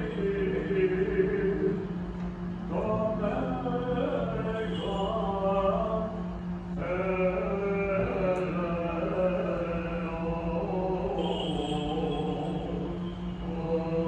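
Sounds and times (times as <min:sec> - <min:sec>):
liturgical chant singing: 0:00.0 - 0:01.9, 0:02.7 - 0:14.0.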